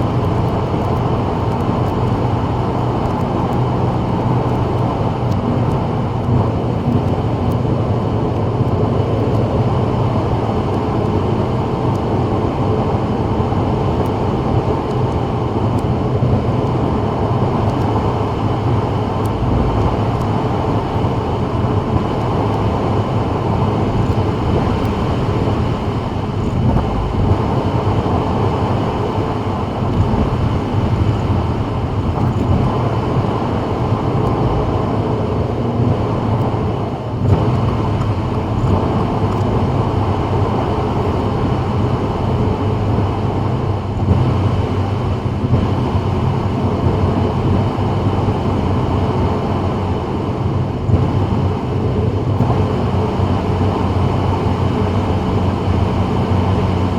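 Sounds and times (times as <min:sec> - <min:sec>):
car engine hum: 0:00.0 - 0:56.9.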